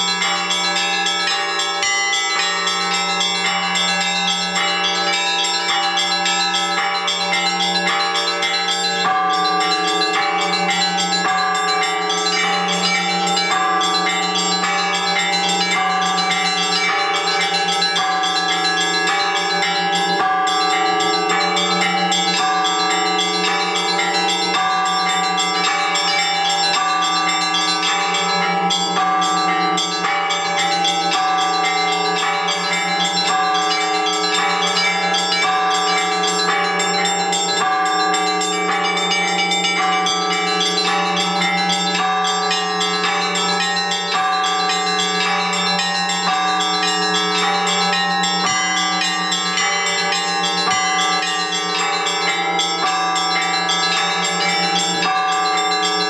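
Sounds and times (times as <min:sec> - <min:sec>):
small bells pealing: 0:00.0 - 0:56.0.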